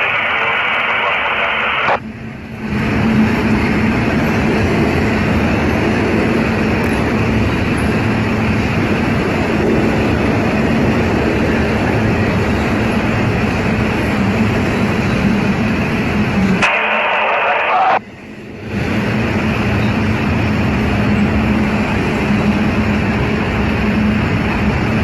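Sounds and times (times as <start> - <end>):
train wheels rumbling on rails: 0.0 - 17.2, 18.0 - 25.0.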